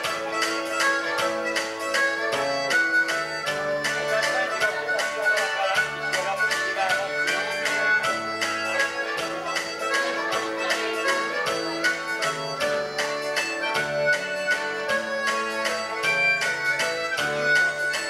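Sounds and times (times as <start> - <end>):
harmonica into a microphone: 0.0 - 18.0.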